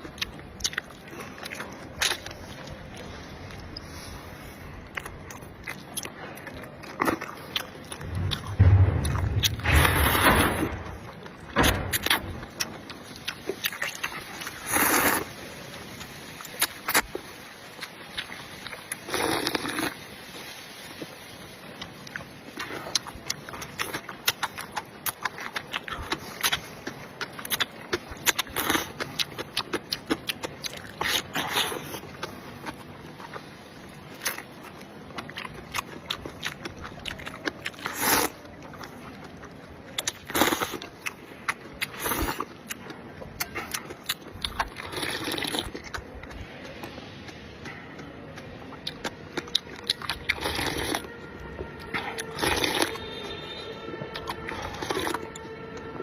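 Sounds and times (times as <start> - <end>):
bites or slurps: 0.0 - 15.4, 16.0 - 21.1, 21.9 - 51.2, 51.8 - 55.5
person chewing and crunching: 0.0 - 21.2, 21.8 - 56.0.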